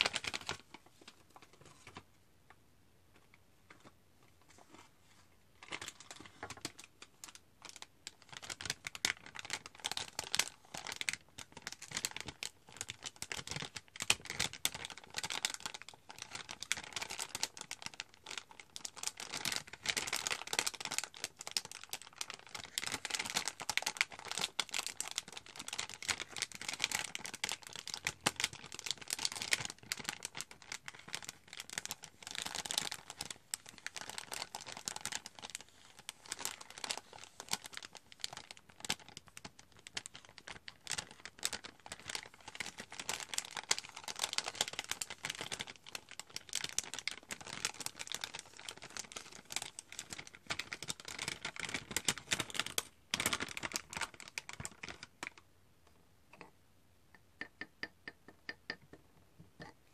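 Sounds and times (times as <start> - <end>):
packet crinkling: 0.0 - 2.1, 5.6 - 55.4.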